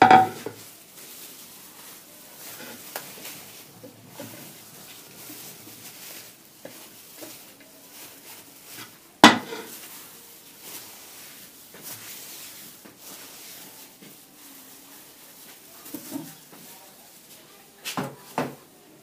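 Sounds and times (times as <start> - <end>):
bread breaking and rustling: 0.0 - 17.3.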